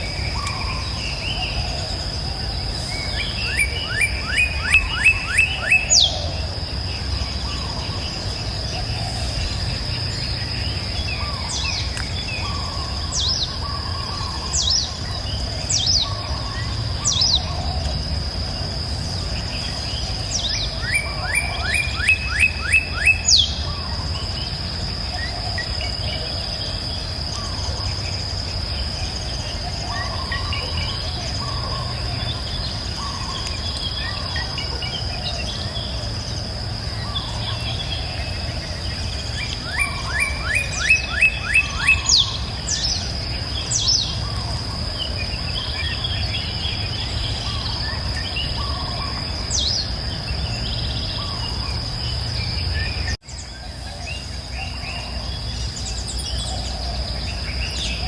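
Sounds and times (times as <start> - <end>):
birds chirping: 0.0 - 58.0
high insect drone: 0.0 - 58.0.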